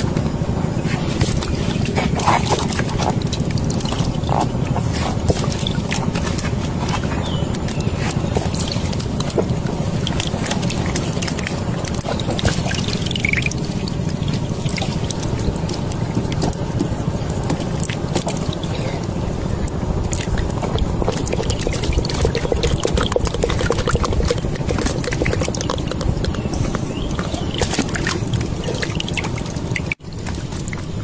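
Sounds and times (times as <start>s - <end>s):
steady low rumble: 0.0s - 31.0s
water splashing and trickling: 0.0s - 31.0s.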